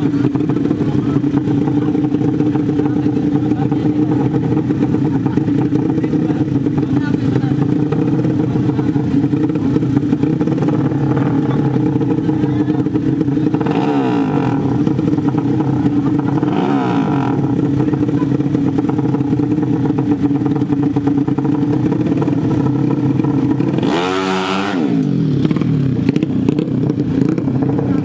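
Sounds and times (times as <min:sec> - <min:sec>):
hard engine rev: 0:00.0 - 0:28.0
motorcycle engines idling: 0:00.0 - 0:28.0.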